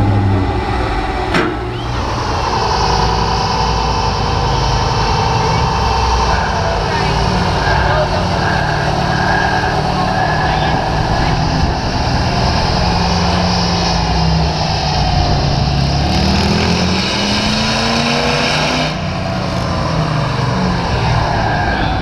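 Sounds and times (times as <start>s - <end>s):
diesel engine revving: 0.0s - 22.0s
high whine: 0.0s - 22.0s.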